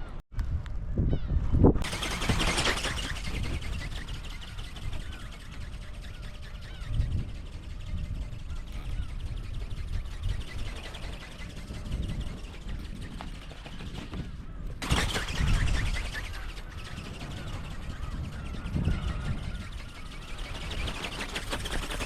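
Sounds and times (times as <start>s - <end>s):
wind buffeting microphone: 0.0s - 22.0s
small birds chirping: 1.2s - 22.0s.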